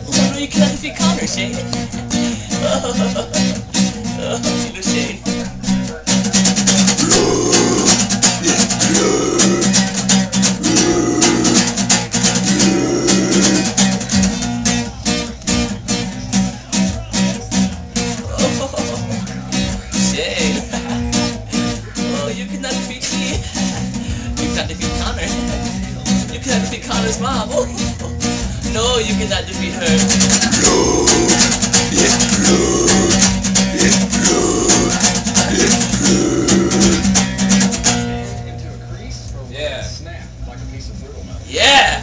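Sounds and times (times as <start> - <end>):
guitar strummed fast: 0.0 - 22.8, 23.6 - 38.3.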